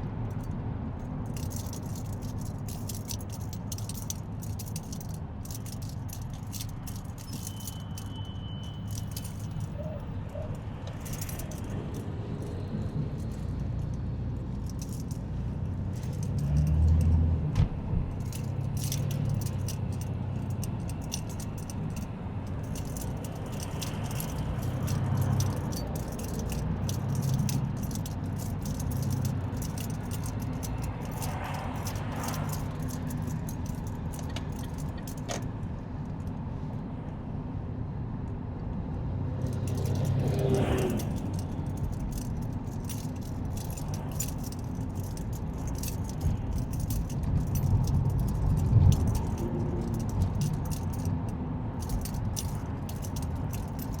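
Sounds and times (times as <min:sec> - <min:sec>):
vehicle road rumble: 0:00.0 - 0:54.0
small clicks and rattles: 0:01.3 - 0:17.2, 0:18.2 - 0:35.6, 0:39.4 - 0:54.0.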